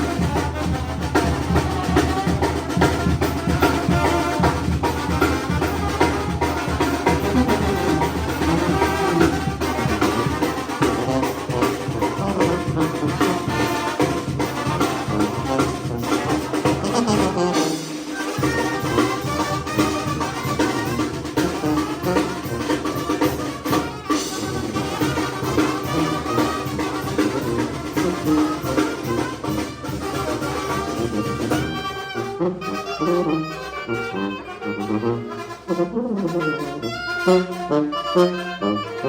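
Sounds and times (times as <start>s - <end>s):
drum beat: 0.0s - 32.0s
brass band playing: 0.0s - 39.0s.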